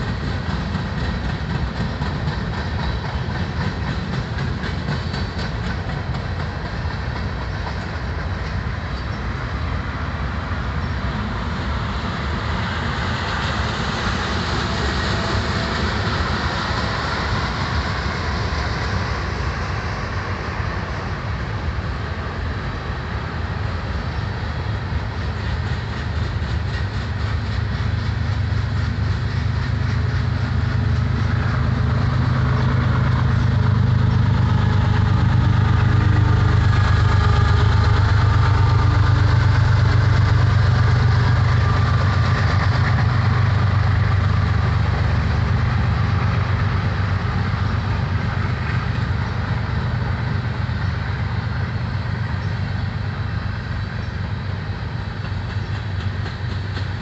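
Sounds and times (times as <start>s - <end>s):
diesel locomotive engine drone: 0.0s - 57.0s
freight cars rumbling: 0.0s - 57.0s.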